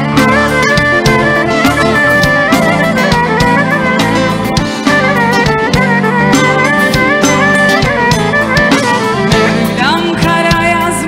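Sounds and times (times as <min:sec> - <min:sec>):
live band folk-pop song: 0:00.0 - 0:11.0.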